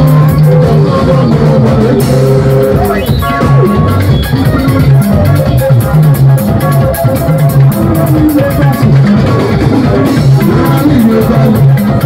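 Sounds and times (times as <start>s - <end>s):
bass line: 0.0s - 12.0s
drum kit with cymbals: 0.0s - 12.0s
electric guitars: 0.0s - 12.0s.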